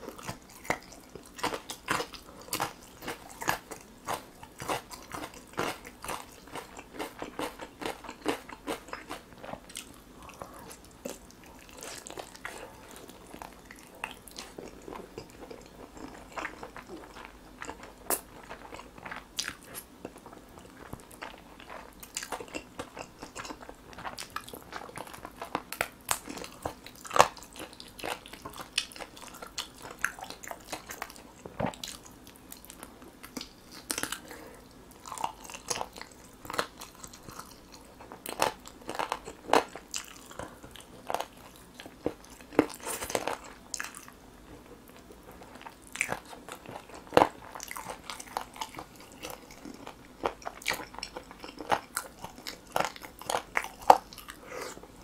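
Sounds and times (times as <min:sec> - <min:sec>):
biting and chewing chicken: 0:00.0 - 0:55.0.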